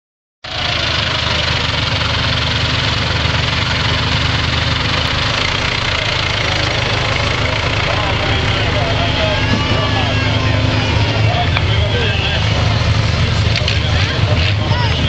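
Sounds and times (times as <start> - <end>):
tractor engine running: 0.4 - 15.0.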